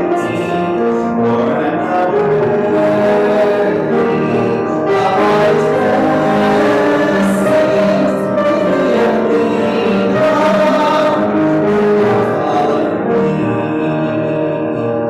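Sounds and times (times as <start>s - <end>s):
congregation singing a hymn: 0.0s - 15.0s
instrumental accompaniment: 0.0s - 15.0s.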